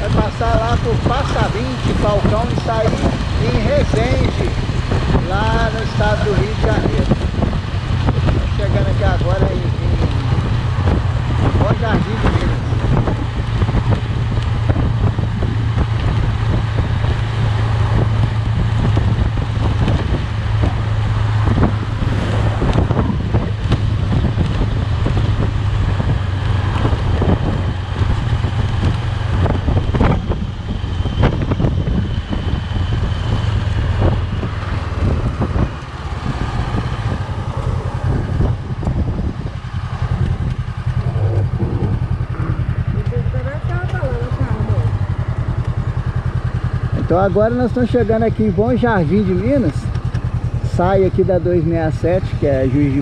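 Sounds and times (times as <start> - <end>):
wind on microphone: 0.0 - 47.4
vehicle engine and tyres droning: 0.0 - 53.0.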